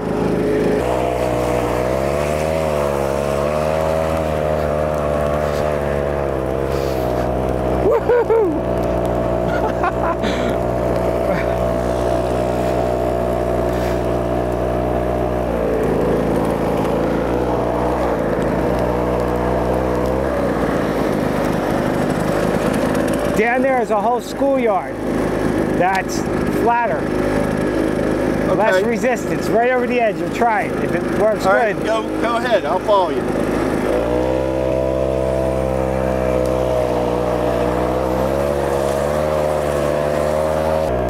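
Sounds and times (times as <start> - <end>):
small engine running: 0.0 - 41.0.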